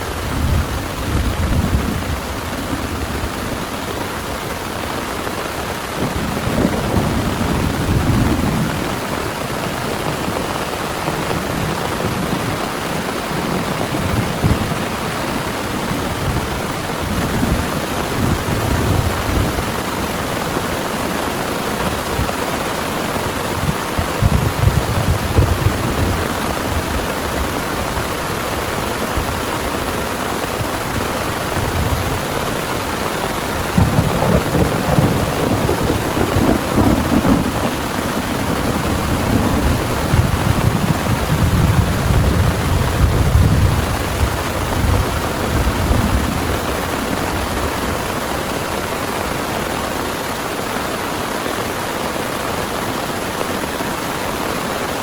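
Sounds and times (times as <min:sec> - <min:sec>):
heavy rain falling: 0:00.0 - 0:55.0
rolling thunder rumbling: 0:00.2 - 0:04.8, 0:05.4 - 0:48.8.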